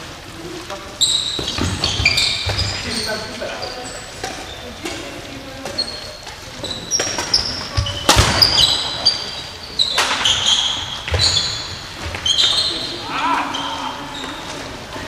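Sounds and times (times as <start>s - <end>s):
shoes squeaking on court: 0.9s - 15.0s.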